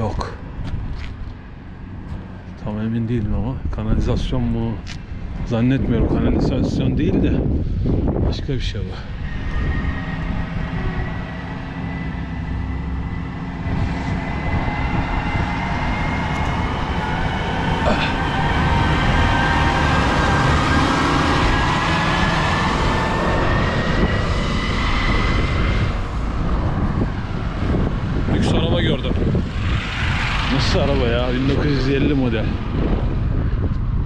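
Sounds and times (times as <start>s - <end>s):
vehicle driving rumble: 0.0s - 34.0s.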